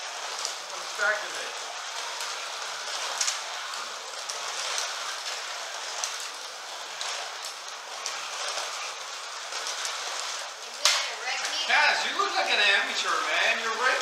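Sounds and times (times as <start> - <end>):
slot car motors hissing: 0.0 - 14.0.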